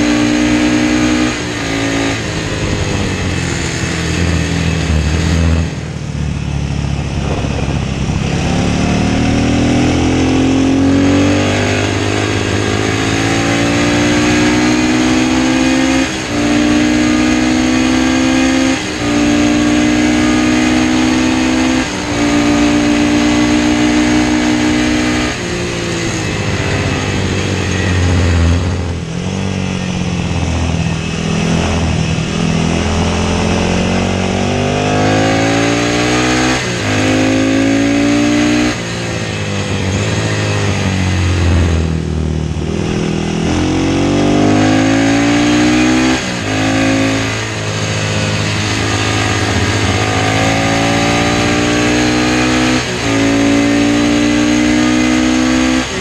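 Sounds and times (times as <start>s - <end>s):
racing motorcycle engine: 0.0s - 56.0s.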